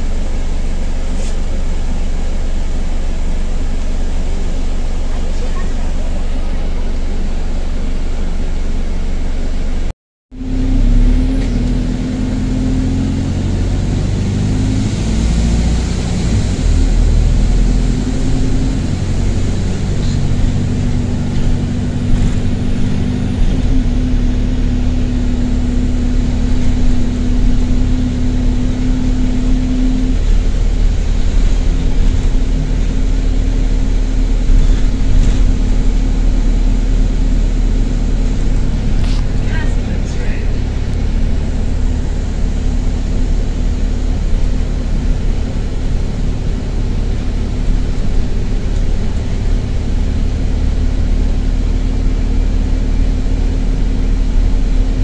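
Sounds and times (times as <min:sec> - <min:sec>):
bus diesel engine under load: 0:00.0 - 0:55.0
turbo exhaust noise: 0:00.0 - 0:55.0.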